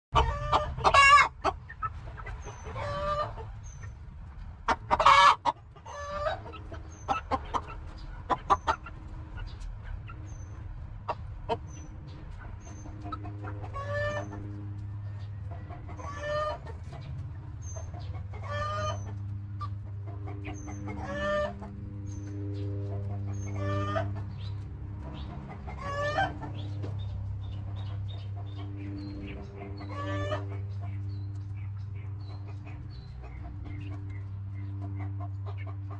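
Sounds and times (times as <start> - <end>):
chickens clucking and calling: 0.1 - 35.9.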